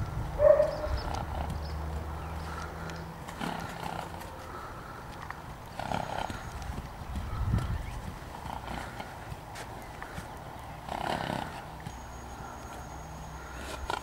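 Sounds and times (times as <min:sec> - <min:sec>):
hoofbeats on gravel: 0:00.5 - 0:12.9.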